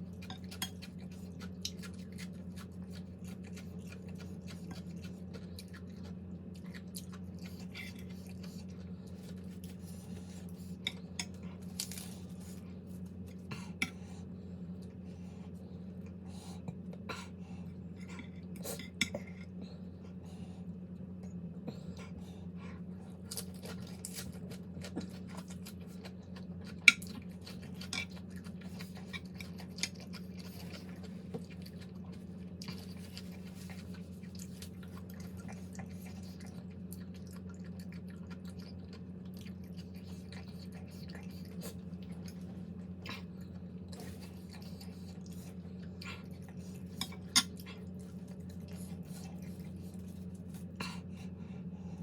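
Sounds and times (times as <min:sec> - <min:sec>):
chewing: 0:00.0 - 0:19.8, 0:21.2 - 0:51.6
steady low hum: 0:00.0 - 0:52.0.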